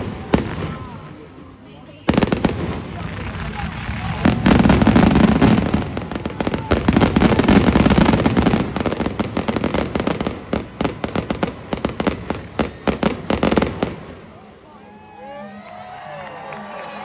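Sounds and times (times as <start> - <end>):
fireworks bangs and crackling: 0.0 - 14.5.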